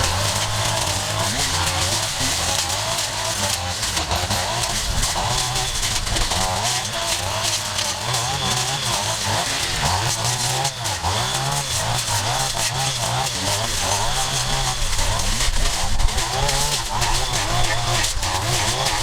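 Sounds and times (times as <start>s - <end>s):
small petrol engine revving: 0.0s - 19.0s.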